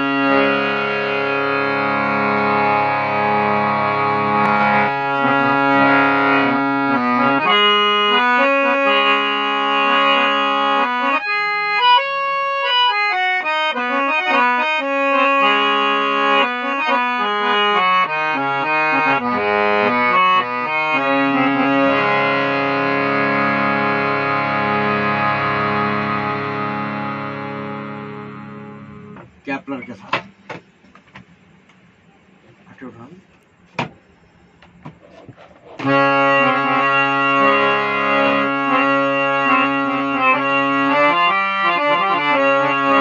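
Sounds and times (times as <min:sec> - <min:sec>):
harmonium playing melody: 0:00.0 - 0:30.8, 0:35.7 - 0:43.0.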